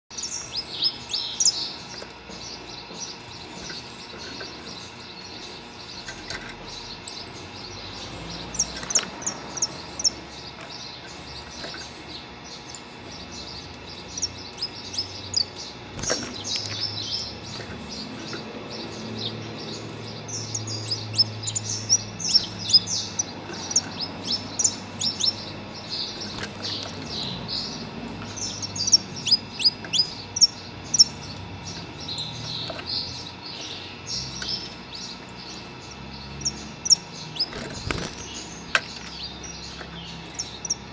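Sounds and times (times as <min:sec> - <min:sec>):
finch chirping song: 0:00.1 - 0:40.9.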